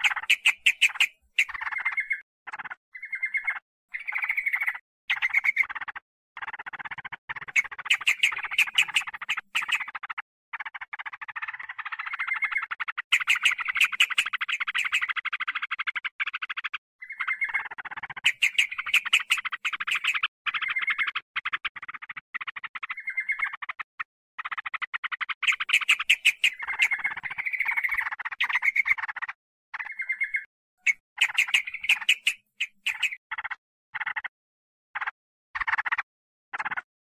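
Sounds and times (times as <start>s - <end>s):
bulbul rapid chattering calls: 0.0s - 34.4s, 35.0s - 36.9s.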